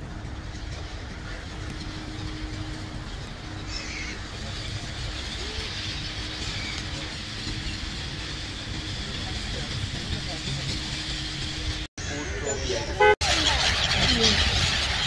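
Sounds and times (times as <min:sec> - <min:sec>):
gulls calling: 0:00.0 - 0:15.0
road traffic rumble: 0:00.0 - 0:15.0.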